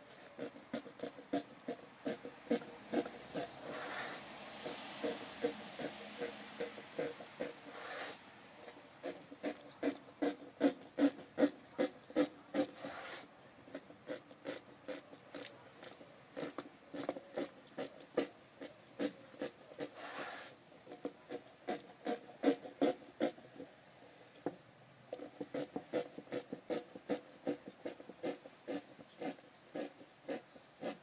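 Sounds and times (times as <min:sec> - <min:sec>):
knife sawing through rubber tyre: 0:00.0 - 0:23.7, 0:25.1 - 0:31.0.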